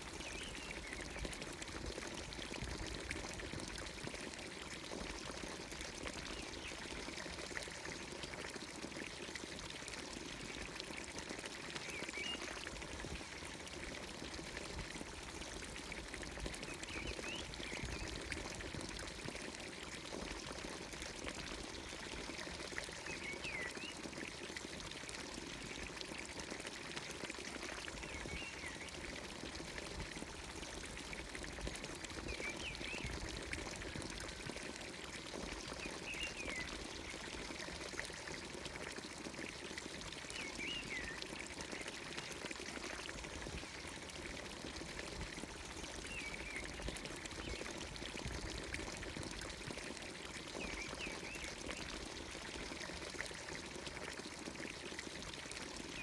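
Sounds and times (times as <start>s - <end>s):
water pouring from fountain spout: 0.0s - 56.0s.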